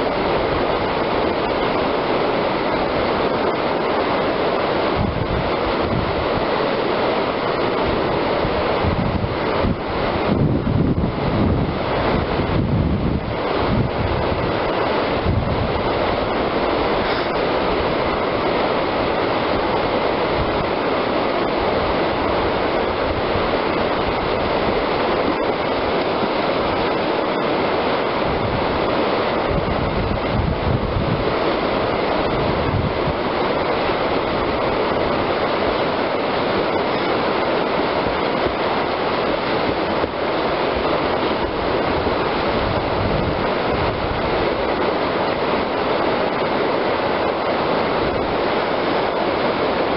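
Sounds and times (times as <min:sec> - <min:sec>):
whitewater rapids rushing: 0:00.0 - 0:49.9.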